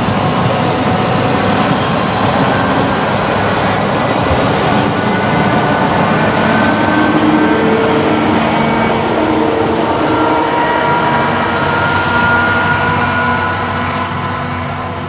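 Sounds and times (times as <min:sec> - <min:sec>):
train rail rumble: 0:00.0 - 0:15.0.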